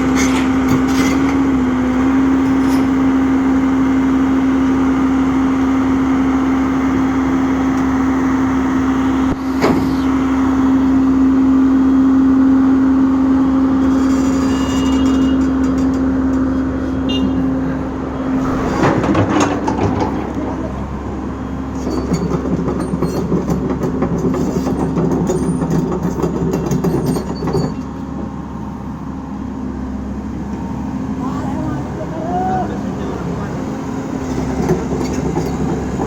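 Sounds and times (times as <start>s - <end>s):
excavator diesel engine humming: 0.0s - 13.9s, 15.1s - 24.2s, 28.1s - 36.0s.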